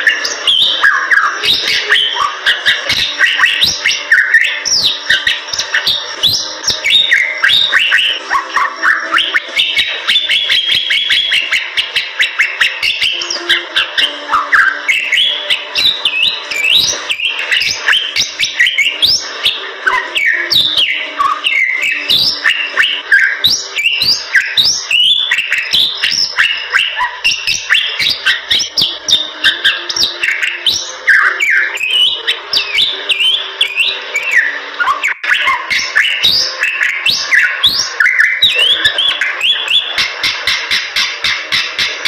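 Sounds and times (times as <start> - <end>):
bird singing chirps and whistles: 0.0 - 42.0.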